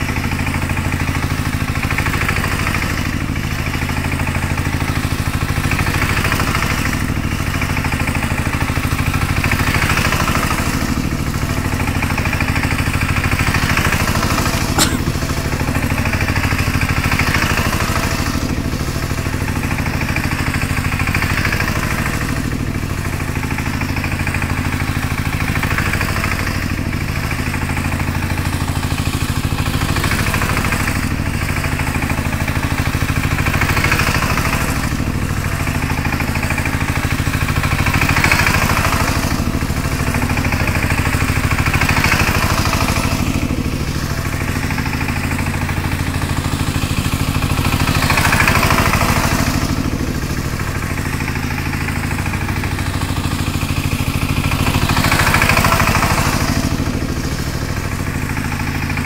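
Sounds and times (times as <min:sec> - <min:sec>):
diesel tiller engine running: 0:00.0 - 0:59.0.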